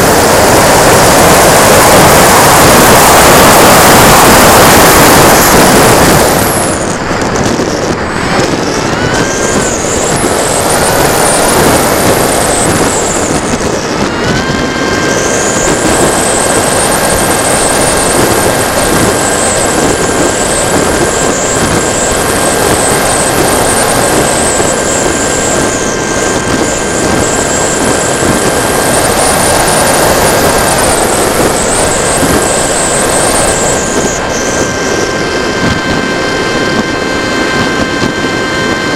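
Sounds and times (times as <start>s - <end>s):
electric motor and propeller whine: 0.0s - 38.9s
wind rushing over camera: 0.0s - 38.9s.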